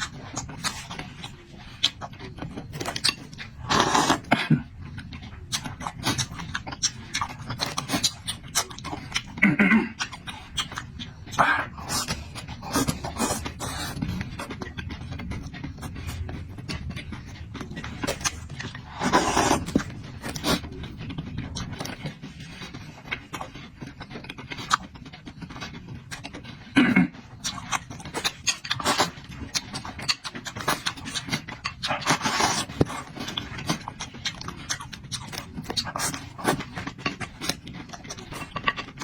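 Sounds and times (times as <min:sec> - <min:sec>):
person chewing and lip-smacking: 0:00.0 - 0:39.0.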